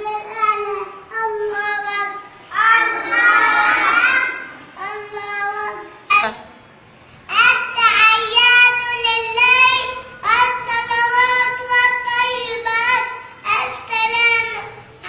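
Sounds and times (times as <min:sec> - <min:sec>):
boy chanting a prayer: 0:00.0 - 0:06.4, 0:07.3 - 0:15.0.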